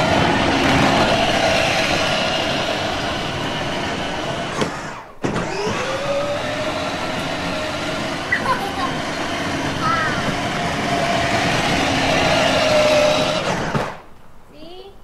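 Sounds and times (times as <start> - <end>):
electric motor whine: 0.0 - 14.0
plastic wheels rolling on paving: 0.0 - 14.1.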